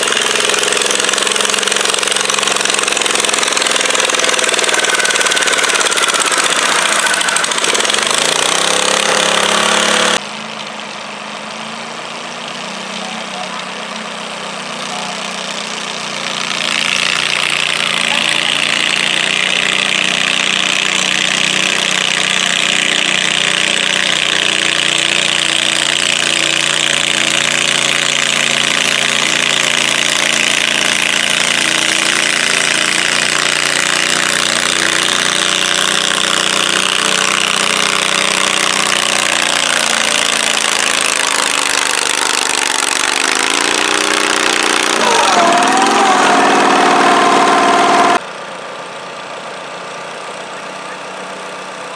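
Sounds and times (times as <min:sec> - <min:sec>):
tractor engine under load: 0:00.0 - 0:51.9.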